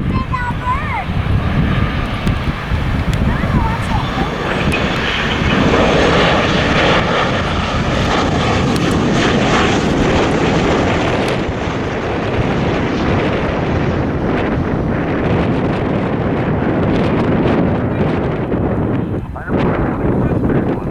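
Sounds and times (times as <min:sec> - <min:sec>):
airliner engines passing overhead: 0:00.0 - 0:20.9
wind buffeting microphone: 0:00.0 - 0:20.9.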